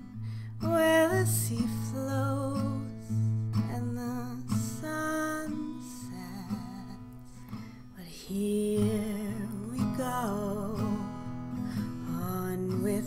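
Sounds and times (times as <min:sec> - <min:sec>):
acoustic guitar chords: 0:00.0 - 0:13.0
woman singing: 0:00.0 - 0:13.0.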